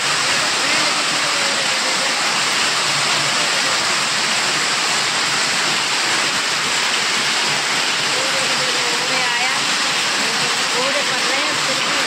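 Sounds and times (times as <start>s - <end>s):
heavy rain and hail pelting: 0.0s - 12.0s.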